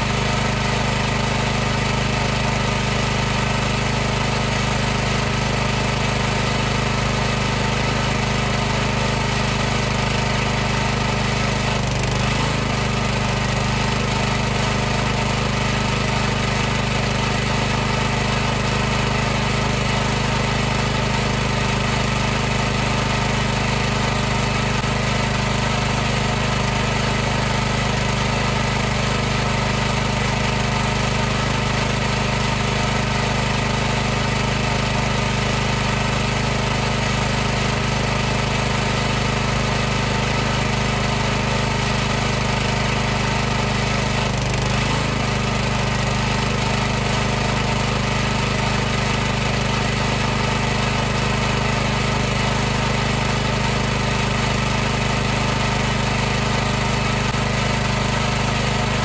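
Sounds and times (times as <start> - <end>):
pressure washer running: 0.0 - 59.0.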